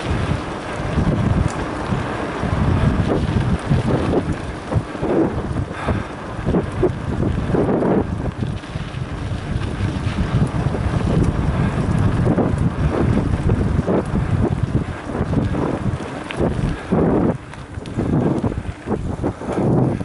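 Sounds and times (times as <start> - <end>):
bike jolts and rattles: 0.0 - 20.0
tyres rumbling on rough ground: 0.0 - 20.0
wind buffeting microphone: 0.0 - 20.0.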